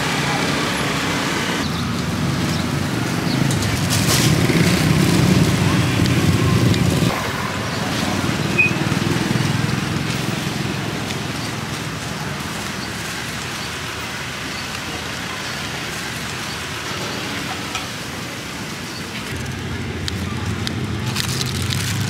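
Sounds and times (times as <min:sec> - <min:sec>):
loud engine rumble: 0:00.0 - 0:22.0
street traffic noise: 0:00.0 - 0:22.0.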